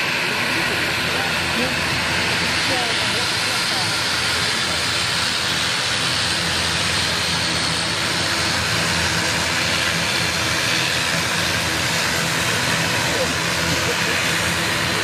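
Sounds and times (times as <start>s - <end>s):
turboprop airliner taxiing: 0.0s - 15.0s.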